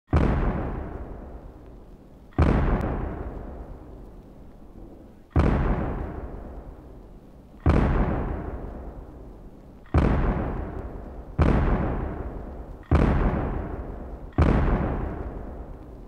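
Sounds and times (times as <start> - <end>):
deep heavy booms: 0.1 - 1.6, 2.4 - 4.0, 4.8 - 6.8, 7.6 - 9.2, 9.9 - 16.0.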